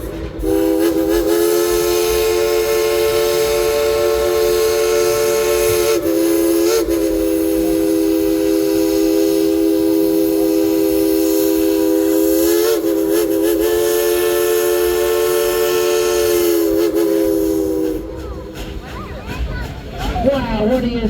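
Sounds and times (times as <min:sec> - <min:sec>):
steam locomotive chime whistle: 0:00.0 - 0:18.7.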